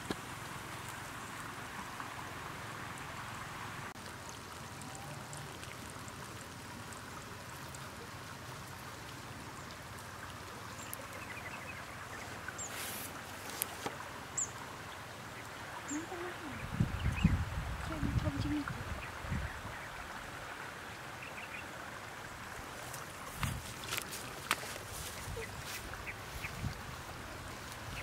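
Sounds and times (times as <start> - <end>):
stream flowing: 0.0 - 28.0.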